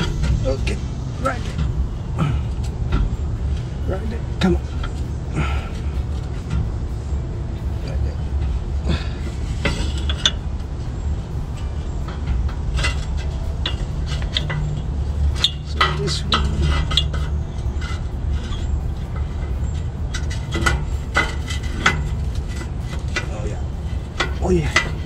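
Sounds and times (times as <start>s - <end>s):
low hum: 0.0s - 25.0s
metal pipe clinking and scraping: 0.0s - 25.0s.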